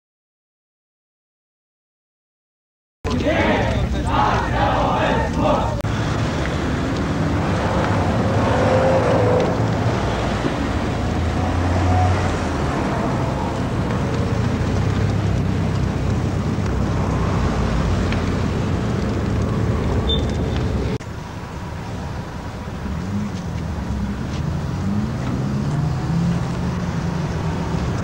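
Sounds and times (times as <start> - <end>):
road traffic rumble: 3.1 - 28.0.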